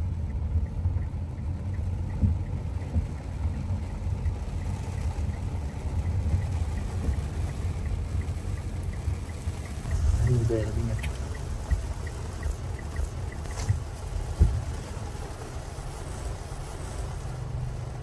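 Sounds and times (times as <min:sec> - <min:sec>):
car engine and tyres rumbling: 0:00.0 - 0:18.0
rain: 0:00.0 - 0:18.0.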